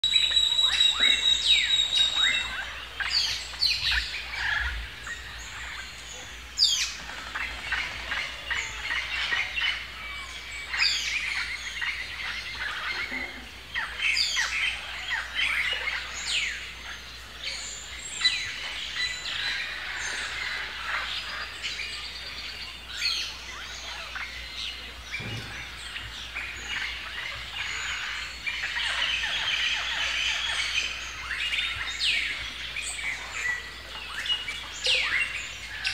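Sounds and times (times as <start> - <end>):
birds chirping and calling: 0.0 - 35.9.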